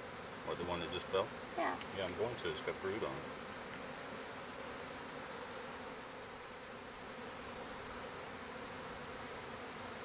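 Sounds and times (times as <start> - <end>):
honeybee colony buzzing: 0.0 - 10.0.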